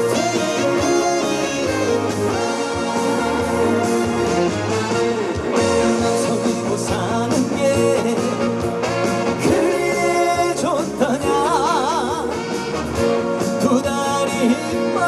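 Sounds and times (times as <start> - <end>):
band playing: 0.0 - 15.0
person singing: 0.0 - 15.0.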